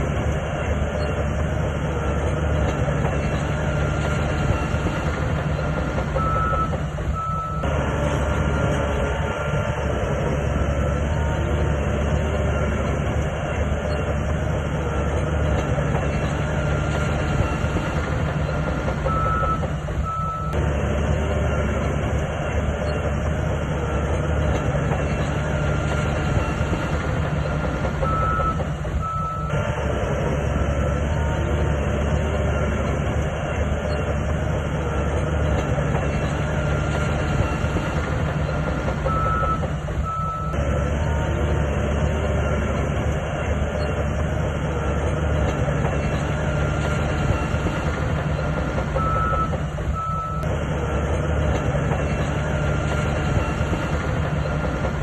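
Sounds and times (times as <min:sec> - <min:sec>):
diesel engine droning: 0:00.0 - 0:55.0
machinery clanking: 0:00.0 - 0:55.0.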